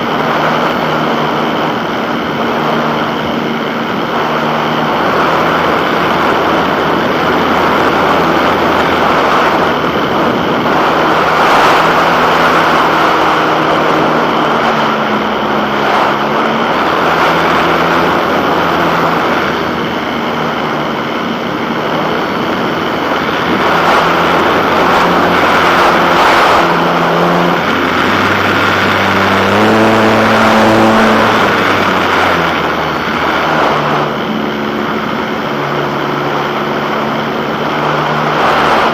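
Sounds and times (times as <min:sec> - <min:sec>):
vehicle engine running: 0:00.0 - 0:38.9
wind noise: 0:00.0 - 0:38.9.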